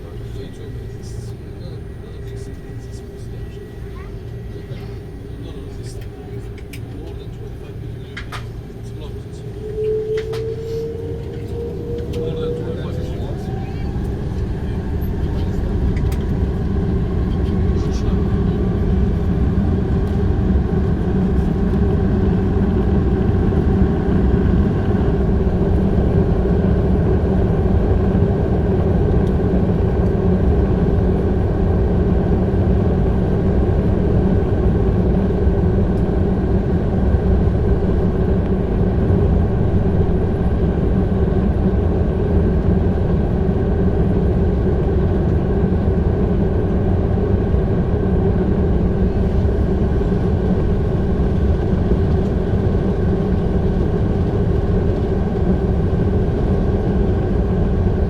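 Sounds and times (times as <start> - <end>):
aircraft engine hum: 0.0 - 58.0.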